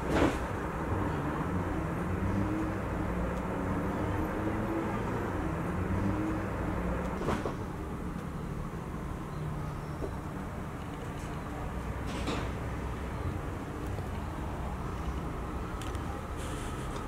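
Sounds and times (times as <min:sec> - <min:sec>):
traffic engines droning: 0:00.0 - 0:17.0.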